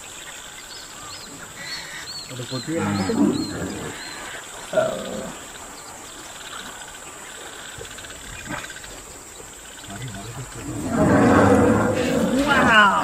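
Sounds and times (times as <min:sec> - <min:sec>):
rough animal calls: 0:01.0 - 0:05.6, 0:06.5 - 0:13.0.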